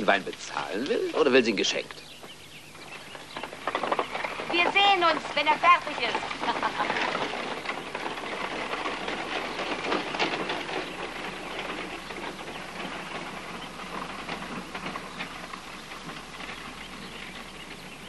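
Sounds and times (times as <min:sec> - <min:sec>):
carriage wheels and hooves clattering: 0:00.0 - 0:18.0.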